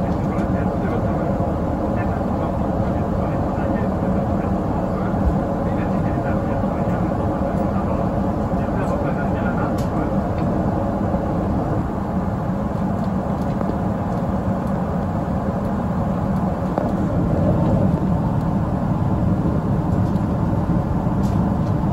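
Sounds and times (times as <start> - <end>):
airplane cabin roar: 0.0 - 21.9.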